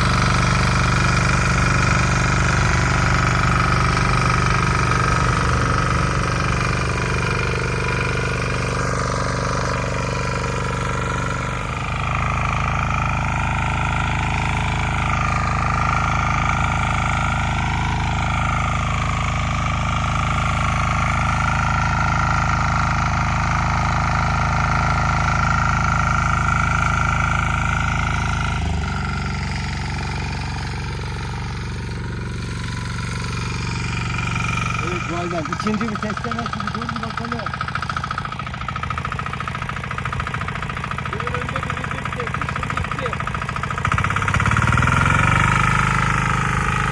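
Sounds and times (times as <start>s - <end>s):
tiller engine running: 0.0s - 46.9s.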